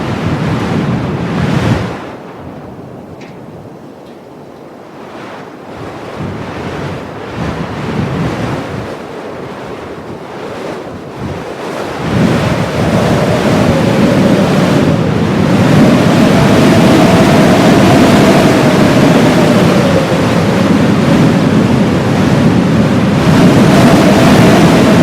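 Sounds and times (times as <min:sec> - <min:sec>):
blizzard wind gusts: 0:00.0 - 0:25.0
faint howling wind note: 0:00.0 - 0:25.0.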